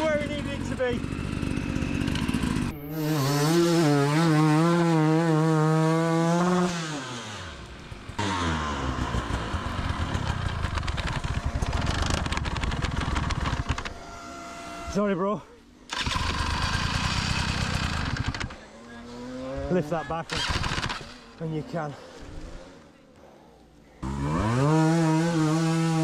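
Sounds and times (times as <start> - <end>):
motorcycle engine revving: 0.0 - 15.1, 15.9 - 23.1, 24.0 - 26.0.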